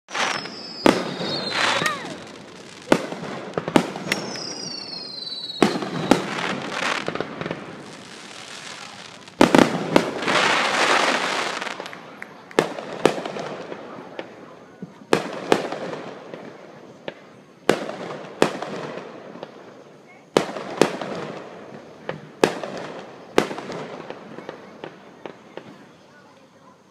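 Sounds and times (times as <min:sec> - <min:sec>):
fireworks booming: 0:00.1 - 0:26.5.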